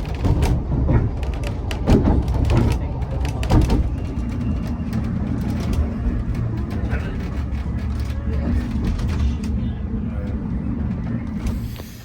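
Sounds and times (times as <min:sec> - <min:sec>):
railway carriage rumbling and rattling: 0:00.0 - 0:12.0.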